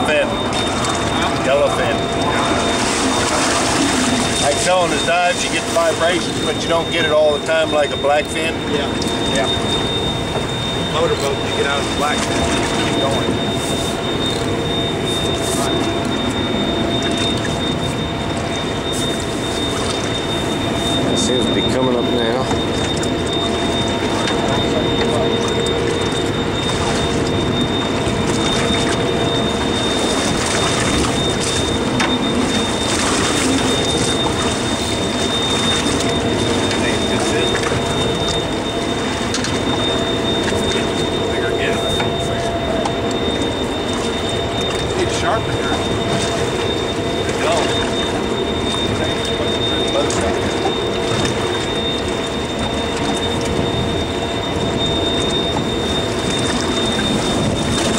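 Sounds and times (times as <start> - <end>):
faint constant hum: 0.0 - 57.9
rushing wind and sea: 0.0 - 57.9
thin high-pitched whine: 0.0 - 57.9.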